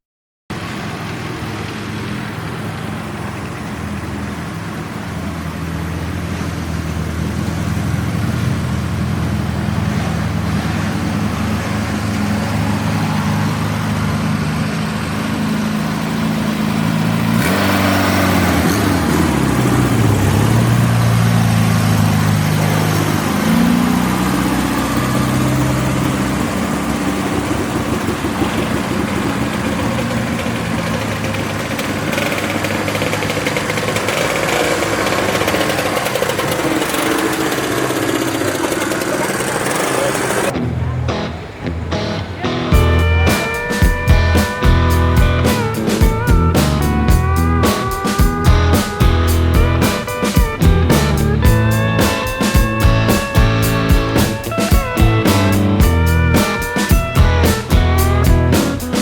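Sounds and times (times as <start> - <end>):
car engines idling: 0.5 - 59.0
car engine revving: 0.6 - 59.0.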